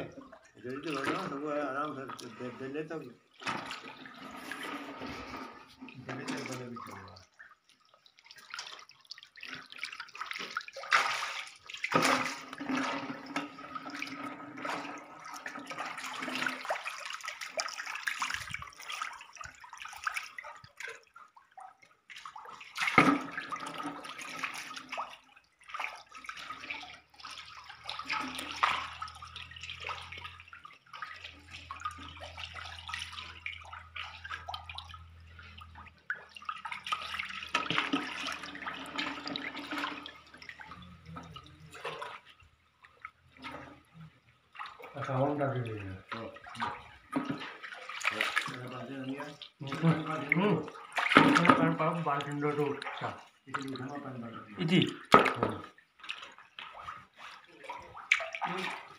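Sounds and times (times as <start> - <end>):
fish splashing in shallow water: 0.0 - 45.2, 46.0 - 54.0, 54.9 - 58.9.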